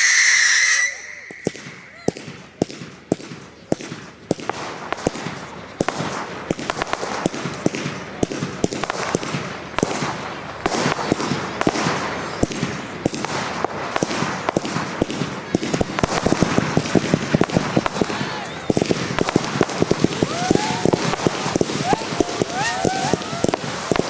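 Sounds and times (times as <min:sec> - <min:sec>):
firework shells bursting: 0:00.0 - 0:24.0
fireworks crackling: 0:00.0 - 0:24.0.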